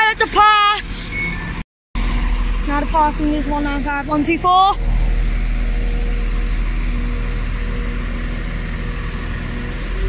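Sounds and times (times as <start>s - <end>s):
train engine and wheels rumbling: 0.0s - 10.0s
rising tone of train accelerating: 1.1s - 10.0s.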